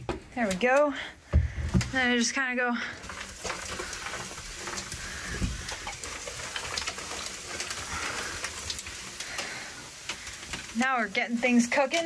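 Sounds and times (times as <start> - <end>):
dry ice fizzing and crackling: 0.0 - 12.0.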